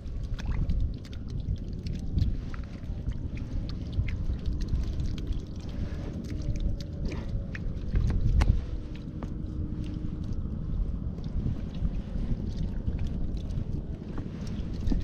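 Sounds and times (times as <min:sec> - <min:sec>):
steady low rumble: 0:00.0 - 0:15.0
water splashing and sloshing: 0:00.0 - 0:15.0.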